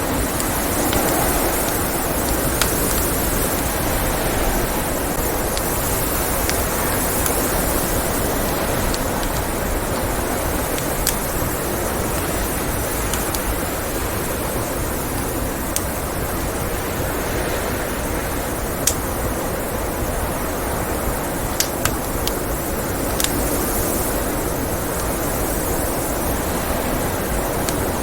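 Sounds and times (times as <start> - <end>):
wood fire crackling: 0.0 - 17.3, 18.1 - 28.0
blizzard wind roaring: 0.0 - 28.0.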